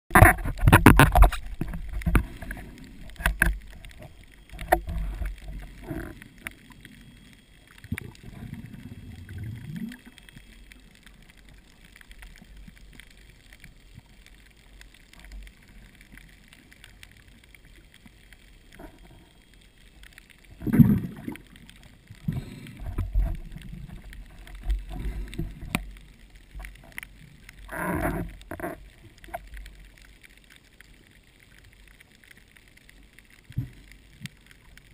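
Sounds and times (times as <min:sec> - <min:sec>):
underwater clicks and crackles: 0:00.1 - 0:34.9
underwater rush of water: 0:00.1 - 0:34.9.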